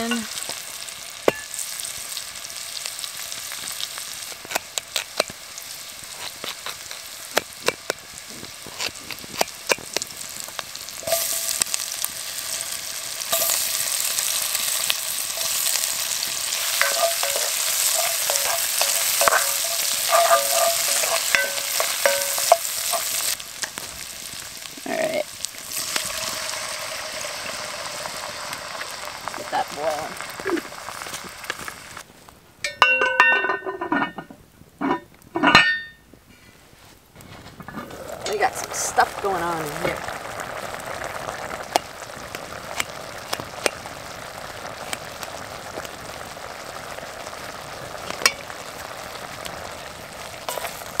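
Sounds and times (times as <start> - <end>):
food sizzling in hot oil: 0.0 - 32.1, 37.6 - 51.0.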